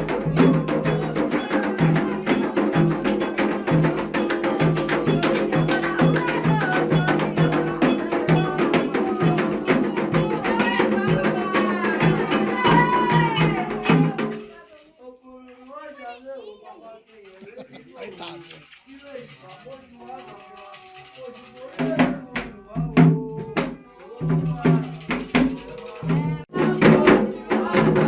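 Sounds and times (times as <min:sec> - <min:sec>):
fast clicking percussion: 0:00.0 - 0:14.7, 0:17.1 - 0:23.1, 0:24.2 - 0:28.0
voices singing: 0:00.0 - 0:28.0.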